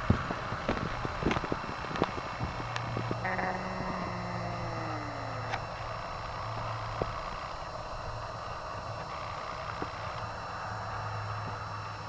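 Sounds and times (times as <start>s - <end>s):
highway traffic drone: 0.0s - 12.0s.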